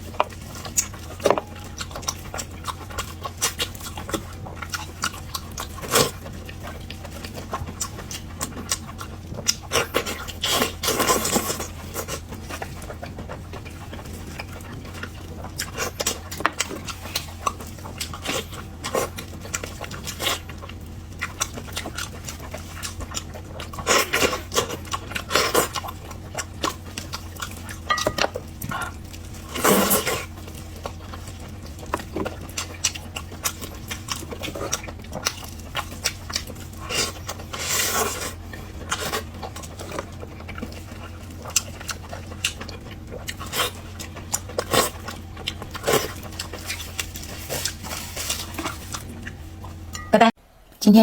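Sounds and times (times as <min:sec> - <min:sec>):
chewing and wet mouth noises: 0:00.0 - 0:50.1.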